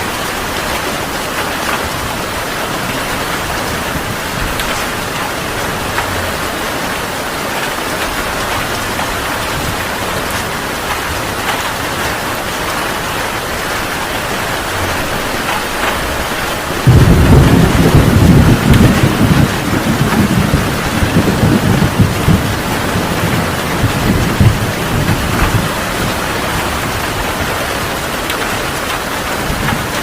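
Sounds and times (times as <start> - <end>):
heavy rain falling: 0.0 - 30.0
low rumble of thunder: 0.7 - 11.6, 13.8 - 27.9.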